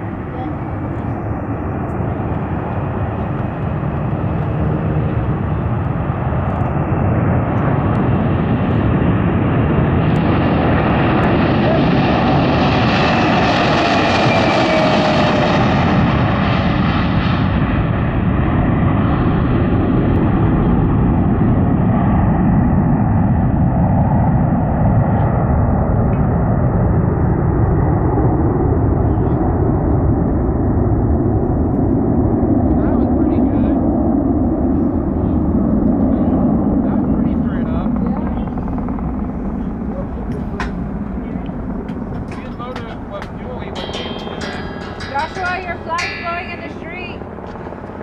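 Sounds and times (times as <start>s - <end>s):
jet engines roaring at takeoff: 0.0s - 48.0s.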